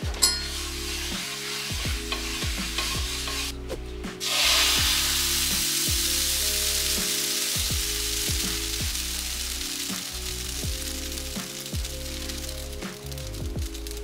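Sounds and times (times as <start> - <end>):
background music: 0.0 - 14.0
batter sizzling in a pan: 0.0 - 14.0.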